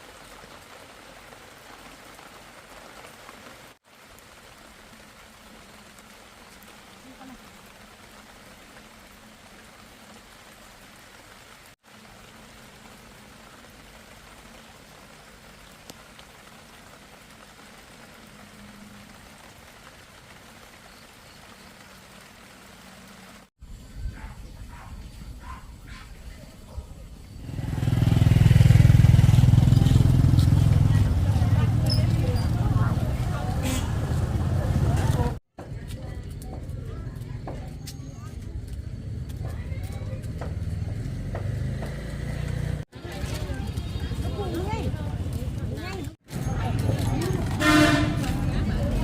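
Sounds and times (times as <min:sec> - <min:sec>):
steady rain falling: 0:00.0 - 0:49.0.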